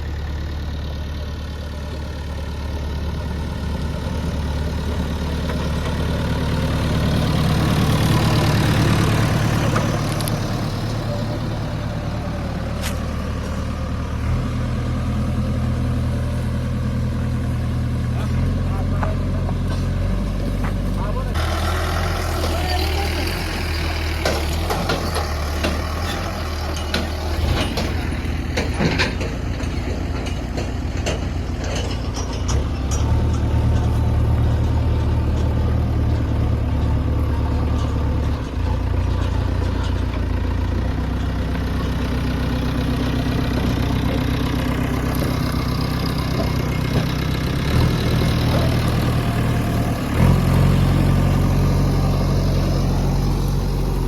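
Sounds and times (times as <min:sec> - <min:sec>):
diesel backhoe engine running: 0:00.0 - 0:54.0.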